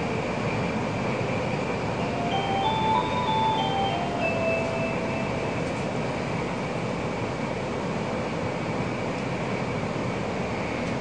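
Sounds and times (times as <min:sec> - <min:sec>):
high-speed train rumble and hiss: 0:00.0 - 0:11.0.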